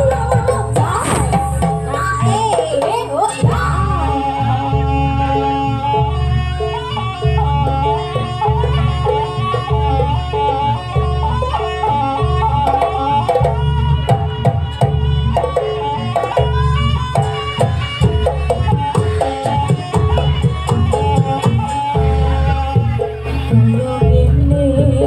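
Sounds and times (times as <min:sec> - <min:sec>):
hand drums: 0:00.0 - 0:25.0
reedy wind instrument melody: 0:00.0 - 0:25.0.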